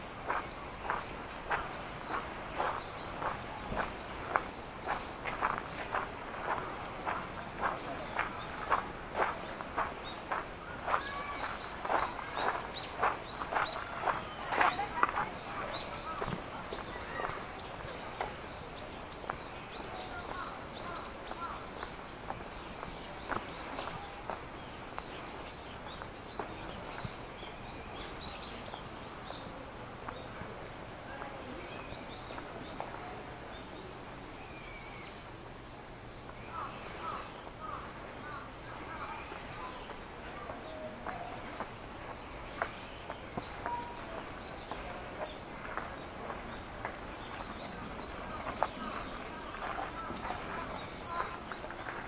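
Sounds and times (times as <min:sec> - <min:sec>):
outdoor background hiss: 0:00.0 - 0:52.0
small birds chirping: 0:00.0 - 0:52.0
footsteps on stone steps: 0:00.2 - 0:29.4, 0:38.9 - 0:52.0.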